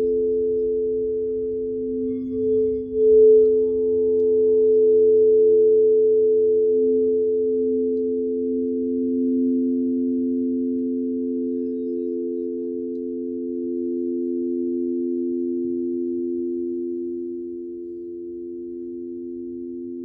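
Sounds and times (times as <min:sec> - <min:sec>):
crystal singing bowls ringing: 0:00.0 - 0:20.0.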